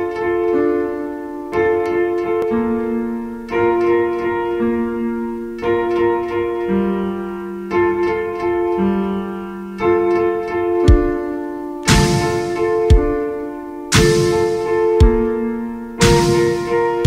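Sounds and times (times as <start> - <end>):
electric piano ringtone chords: 0.0 - 17.0.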